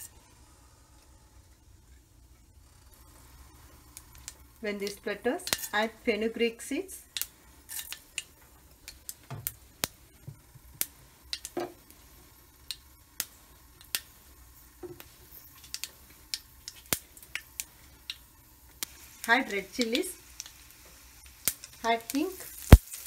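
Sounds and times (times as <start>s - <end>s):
mustard seeds popping in hot oil: 2.8s - 23.0s.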